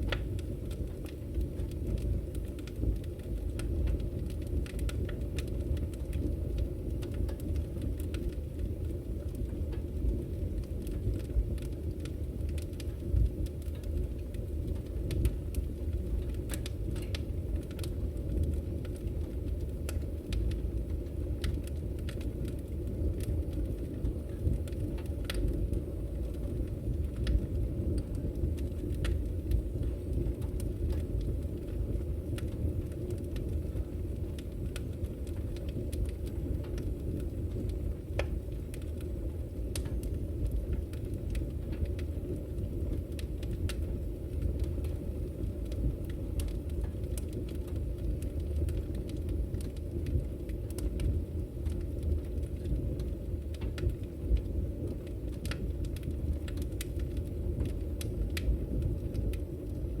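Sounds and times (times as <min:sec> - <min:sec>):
fire flames rumbling: 0:00.0 - 1:00.0
firewood crackling and popping: 0:00.0 - 1:00.0.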